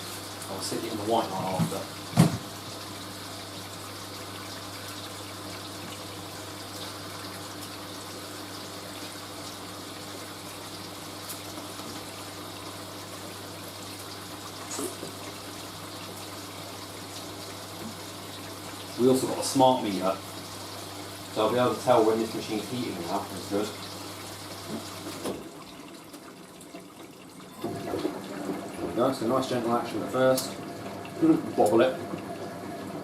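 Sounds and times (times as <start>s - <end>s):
washing machine filling with water: 0.0s - 33.0s.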